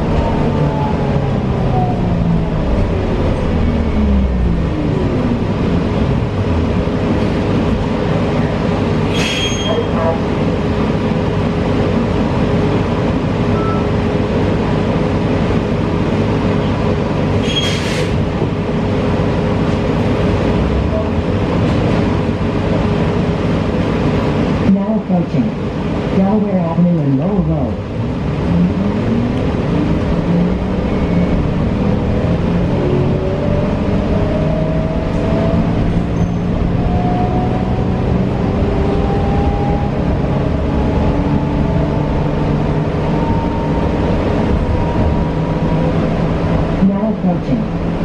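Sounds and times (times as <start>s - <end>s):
bus road and cabin noise: 0.0s - 48.0s.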